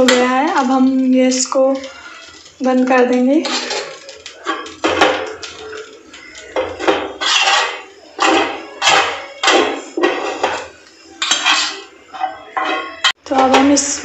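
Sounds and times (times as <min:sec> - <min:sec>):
spoon scraping a pan: 0:00.0 - 0:14.0.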